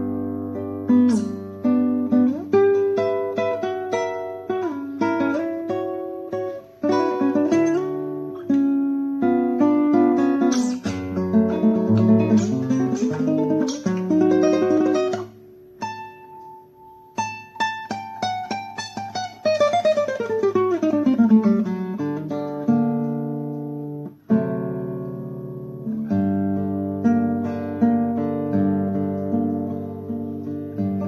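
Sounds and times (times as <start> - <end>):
solo classical guitar: 0.0 - 31.0.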